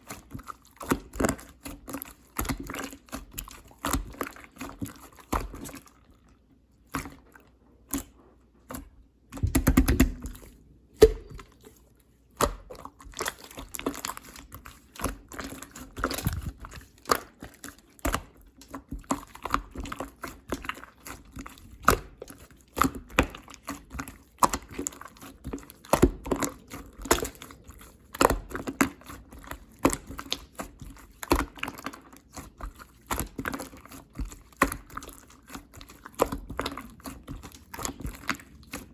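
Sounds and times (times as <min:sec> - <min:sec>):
slime squelch: 0:00.0 - 0:38.9.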